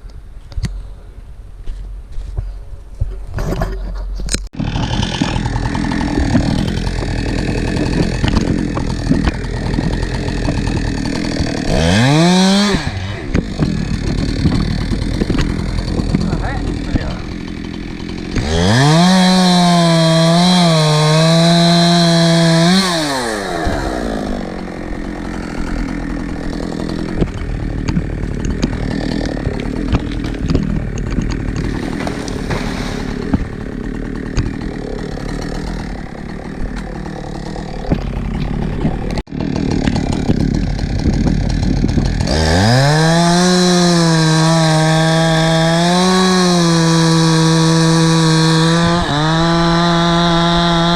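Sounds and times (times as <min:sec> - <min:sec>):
chainsaw revving: 0:04.6 - 0:50.9.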